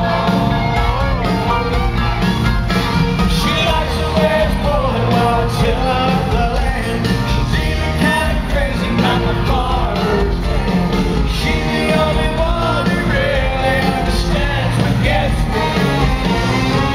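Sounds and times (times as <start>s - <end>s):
live country band: 0.0s - 16.9s
person singing: 3.3s - 16.9s.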